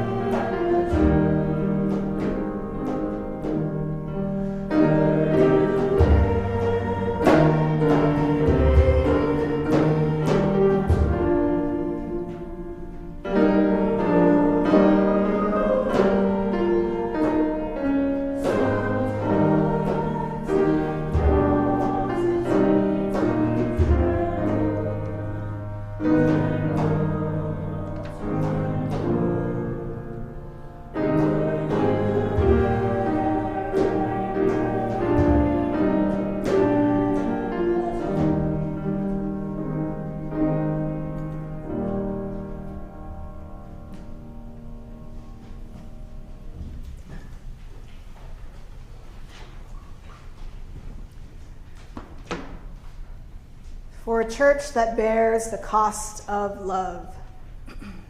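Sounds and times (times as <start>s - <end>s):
slow piano hymn: 0.0s - 55.9s.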